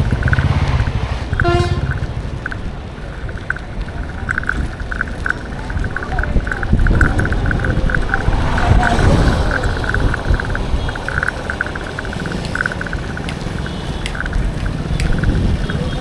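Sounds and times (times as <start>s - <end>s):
low traffic rumble: 0.0s - 16.0s
motor vehicle passing: 0.0s - 16.0s
rapid high ticking: 0.0s - 16.0s.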